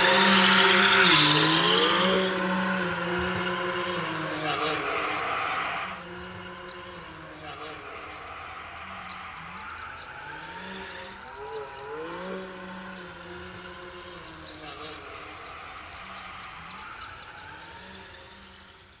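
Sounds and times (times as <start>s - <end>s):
distant car engine revving: 0.0s - 19.0s.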